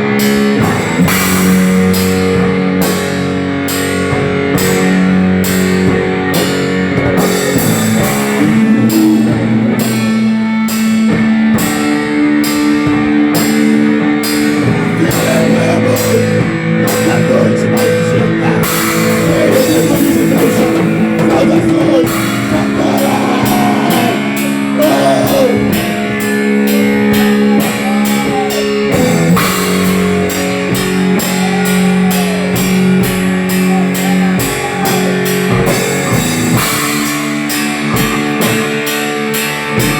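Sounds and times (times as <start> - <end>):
drum kit beat: 0.0 - 39.9
sustained electric guitar: 0.0 - 39.9.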